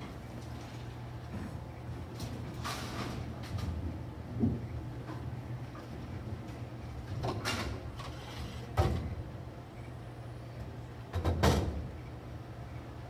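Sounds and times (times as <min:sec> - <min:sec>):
bowling alley machinery hum: 0:00.0 - 0:13.0.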